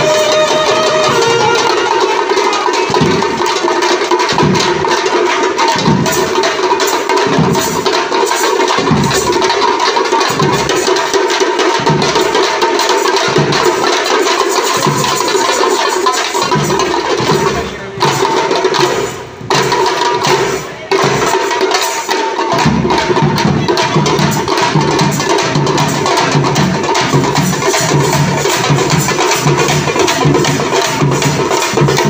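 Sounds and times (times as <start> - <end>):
frame drums beaten with sticks: 0.0 - 32.0.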